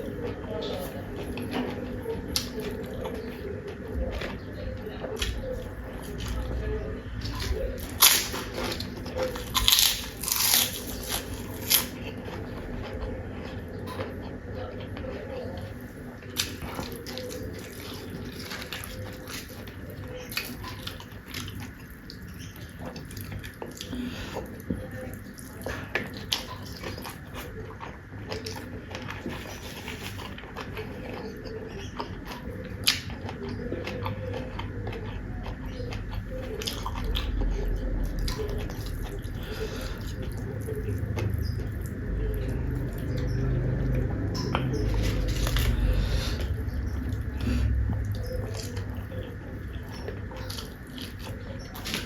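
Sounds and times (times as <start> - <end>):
chewing with crunches: 0.0 - 52.0.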